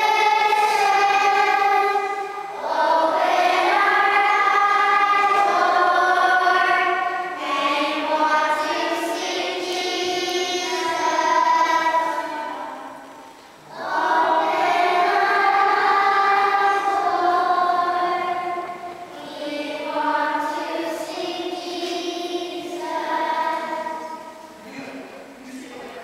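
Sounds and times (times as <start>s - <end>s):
children's choir singing: 0.0s - 24.8s.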